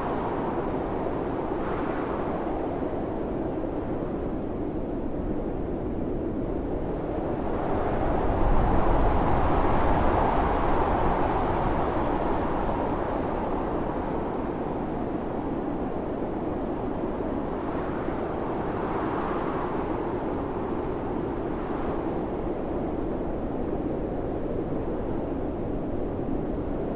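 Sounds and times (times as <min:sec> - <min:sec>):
blizzard wind howling: 0:00.0 - 0:26.9.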